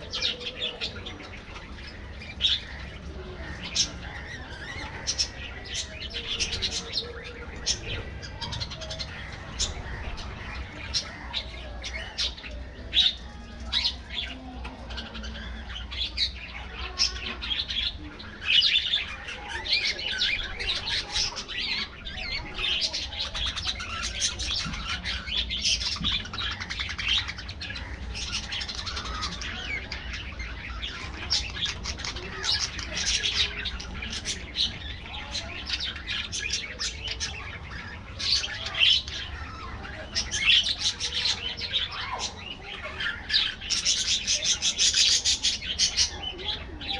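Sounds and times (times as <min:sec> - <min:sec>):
budgerigars chirping and warbling: 0:00.0 - 0:46.9.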